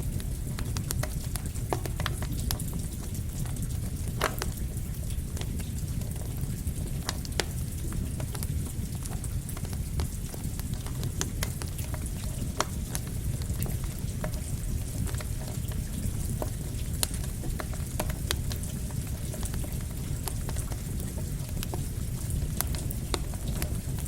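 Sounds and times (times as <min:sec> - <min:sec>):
campfire crackling and popping: 0:00.0 - 0:24.0
rain hissing: 0:00.0 - 0:24.0.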